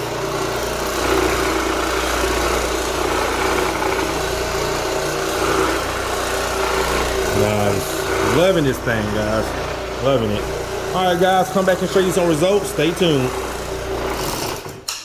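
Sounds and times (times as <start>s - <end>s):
floor scrubbing machine humming: 0.0s - 14.9s.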